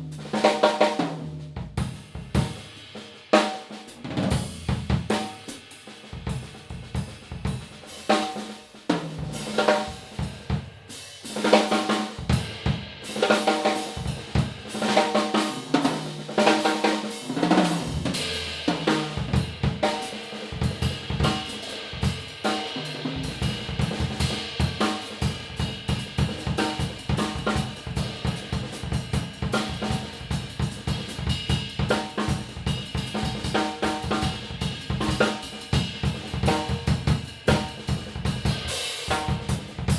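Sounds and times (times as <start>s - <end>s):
drum groove with cymbals: 0.0s - 39.9s
tom and snare fills: 0.0s - 39.9s.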